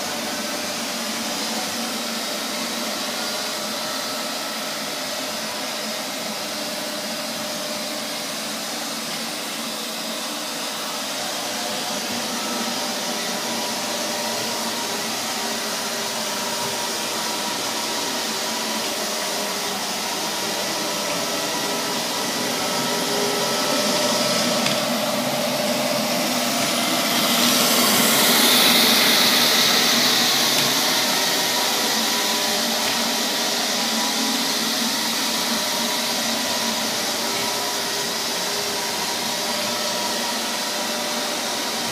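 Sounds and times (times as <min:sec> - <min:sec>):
robot vacuum cleaner whirring: 0:00.0 - 0:41.9.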